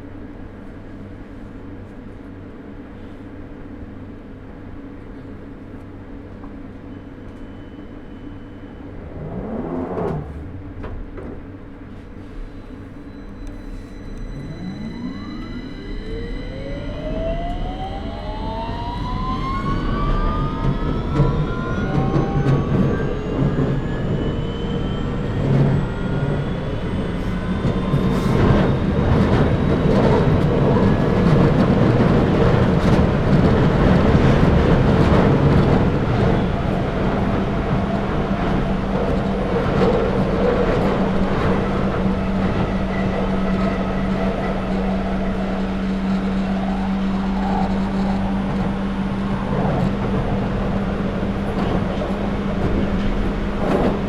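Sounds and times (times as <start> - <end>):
train rumble and rail noise: 0.0 - 54.0
train traction motors whining: 5.8 - 54.0.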